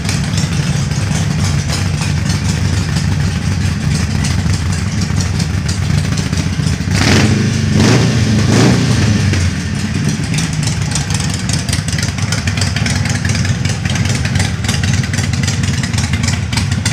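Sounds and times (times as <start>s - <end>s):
motorcycle engine revving and idling: 0.0s - 16.9s.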